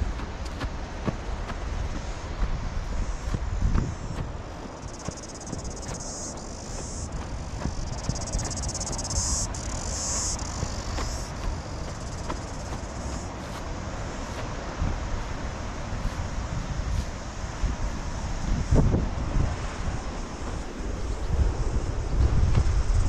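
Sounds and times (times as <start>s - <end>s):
faint footsteps on trail: 0.0s - 22.6s
insects chirring: 0.0s - 23.0s
wind rumble on microphone: 0.0s - 23.0s.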